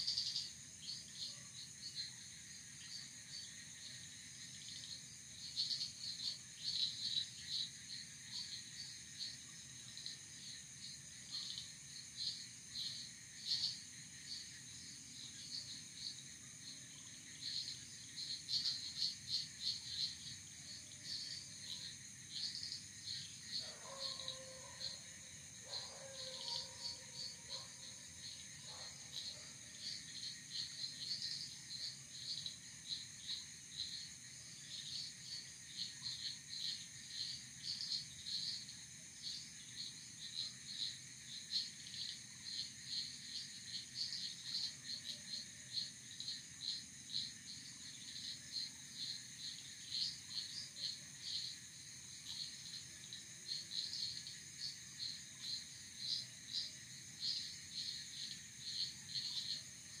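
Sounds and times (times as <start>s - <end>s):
crickets chirping: 0.0s - 60.0s
high-pitched insect trill: 0.0s - 60.0s.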